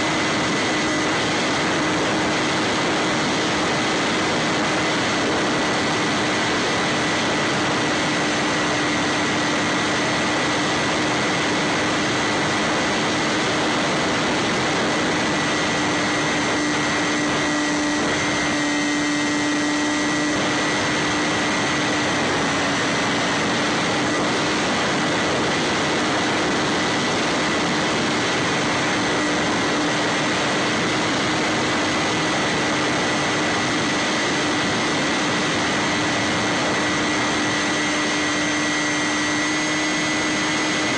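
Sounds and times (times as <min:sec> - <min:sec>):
electric motor and propeller whine: 0:00.0 - 0:40.9
wind rush: 0:00.0 - 0:40.9.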